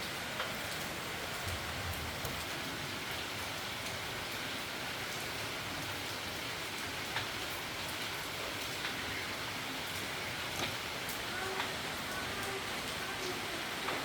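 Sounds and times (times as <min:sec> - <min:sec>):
storm rain hissing: 0:00.0 - 0:14.0.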